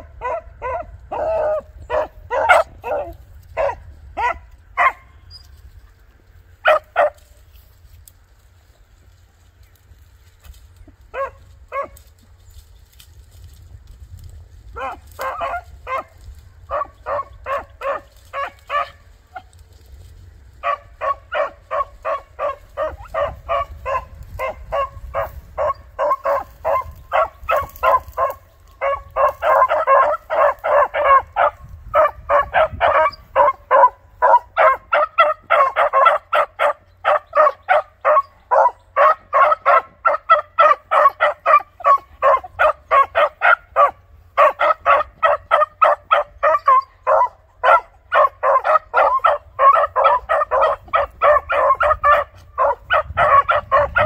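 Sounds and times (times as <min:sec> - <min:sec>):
dog barking rapidly: 0:00.0 - 0:05.1, 0:06.6 - 0:07.2, 0:11.1 - 0:12.0, 0:14.8 - 0:19.0, 0:20.6 - 0:54.0.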